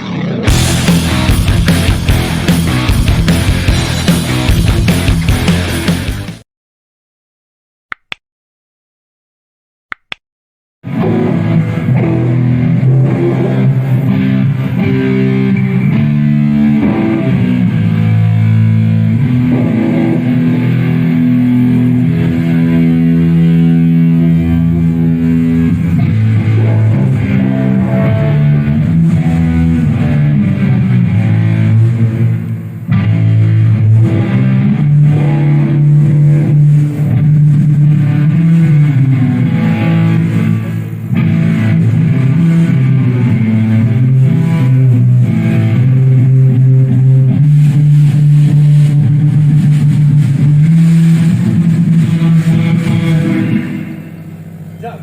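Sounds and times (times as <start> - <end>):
electric guitar chords: 0.0 - 6.4, 10.8 - 55.0
bass guitar playing: 0.4 - 6.4, 10.9 - 54.3.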